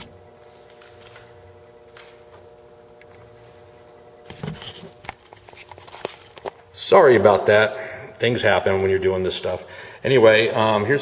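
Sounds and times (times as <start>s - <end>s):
steady multi-pitch hum: 0.0s - 11.0s.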